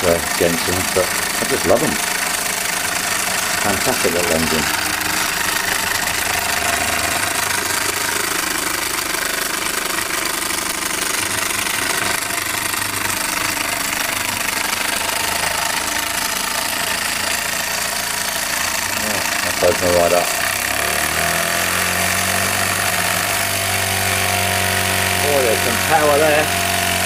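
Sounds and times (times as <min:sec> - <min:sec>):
toy steam engine running: 0:00.0 - 0:27.0.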